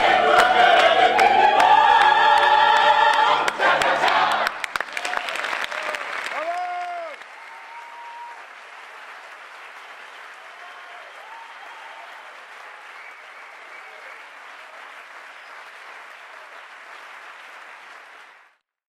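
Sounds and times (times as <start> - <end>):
audience applauding: 0.0 - 18.6.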